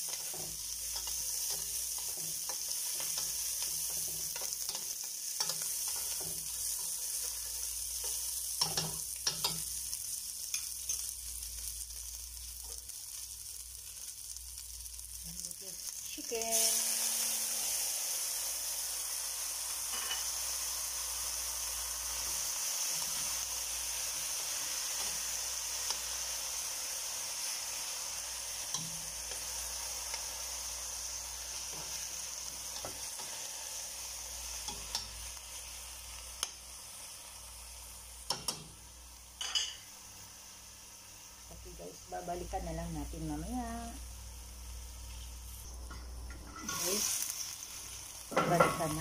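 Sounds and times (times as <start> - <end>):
chicken sizzling in oil: 0.0 - 49.0.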